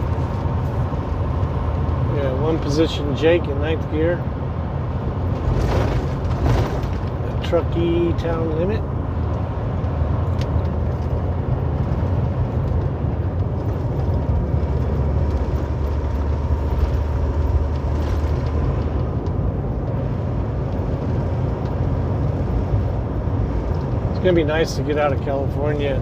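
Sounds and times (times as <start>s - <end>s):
road noise inside cab: 0.0s - 26.0s.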